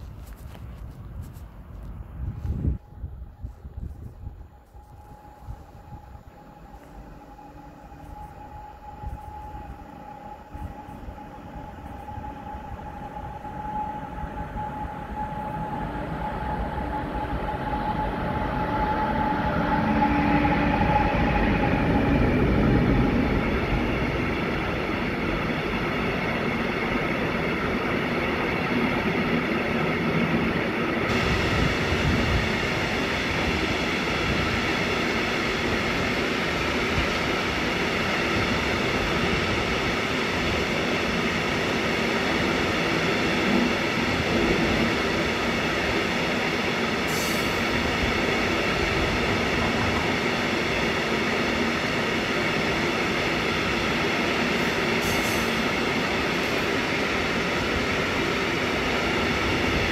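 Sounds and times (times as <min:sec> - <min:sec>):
locomotive whine and rumble: 0:00.0 - 0:59.9.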